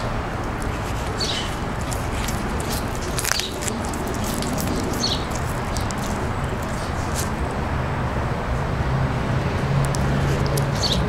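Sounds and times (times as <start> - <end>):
iguana crunching greens: 0.0 - 7.7, 9.6 - 11.0.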